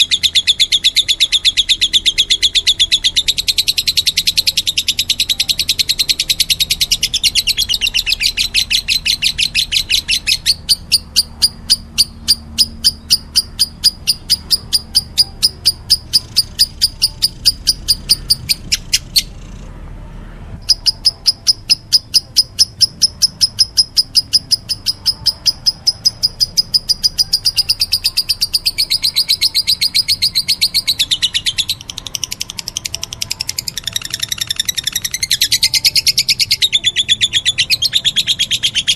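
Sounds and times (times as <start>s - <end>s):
lovebird begging chirps: 0.0s - 19.4s, 20.6s - 38.9s.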